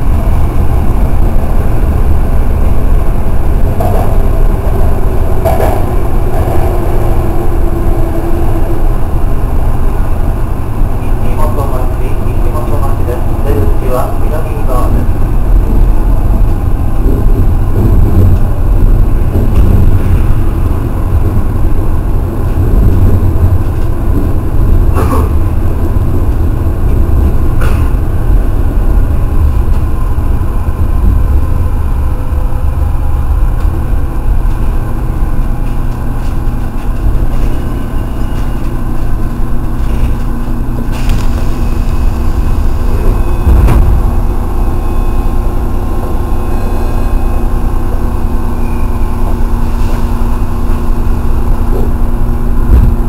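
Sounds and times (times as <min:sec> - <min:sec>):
train rumbling through tunnel: 0:00.0 - 0:53.0.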